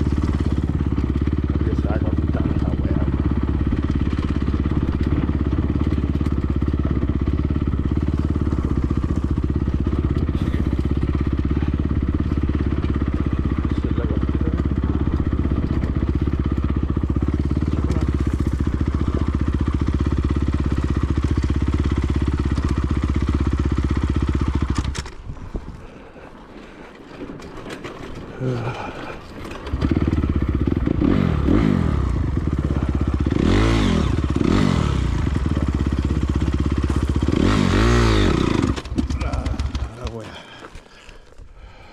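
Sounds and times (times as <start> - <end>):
motorcycle engine running steadily: 0.0 - 26.4, 27.0 - 41.9.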